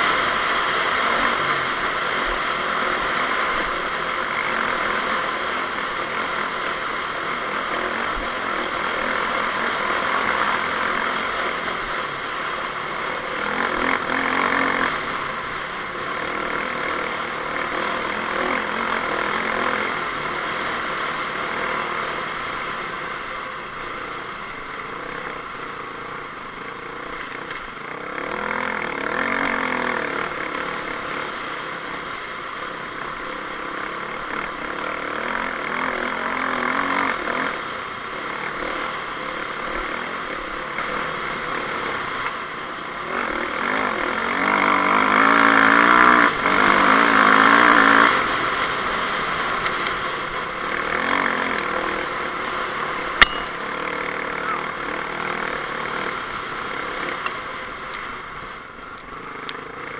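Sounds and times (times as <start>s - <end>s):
dirt bike engine running: 0.0s - 59.9s
steady noisy rush: 0.0s - 59.9s.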